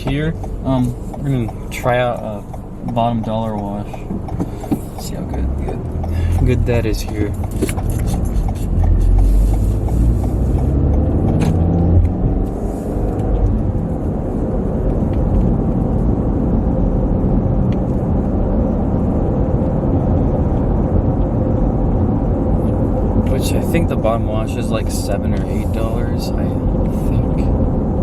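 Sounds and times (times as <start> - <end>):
engine and tyre rumble in cabin: 0.0 - 28.0.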